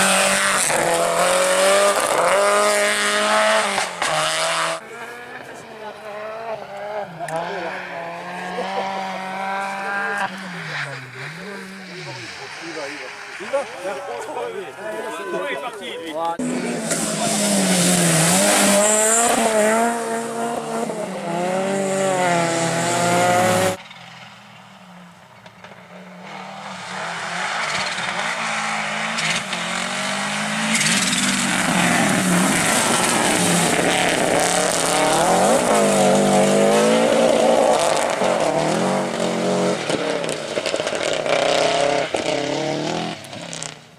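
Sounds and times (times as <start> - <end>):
rally car engine revving: 0.0 - 15.0, 16.3 - 24.3, 25.4 - 43.9
rally car engine approaching: 0.0 - 15.6, 16.2 - 43.9.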